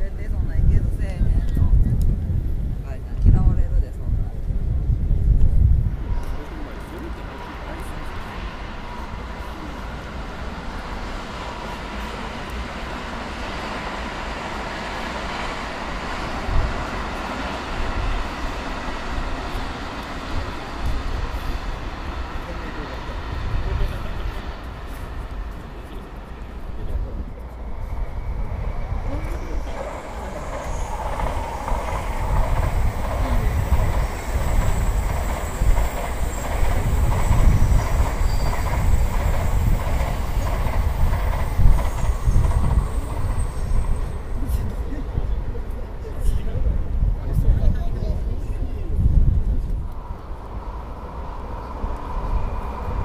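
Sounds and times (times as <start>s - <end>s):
train rumbling: 0.0s - 53.0s
city traffic noise: 5.4s - 47.5s, 48.1s - 53.0s.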